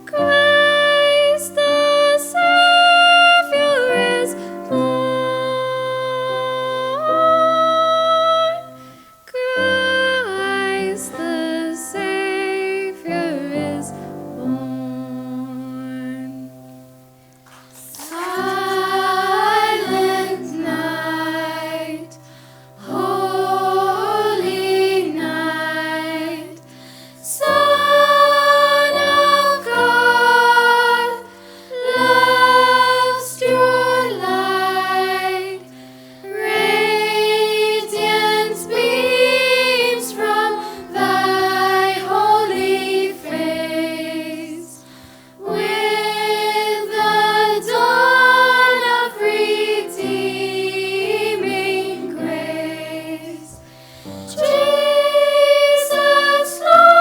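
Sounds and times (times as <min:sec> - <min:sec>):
choir singing: 0:00.0 - 0:16.5, 0:17.8 - 0:57.0.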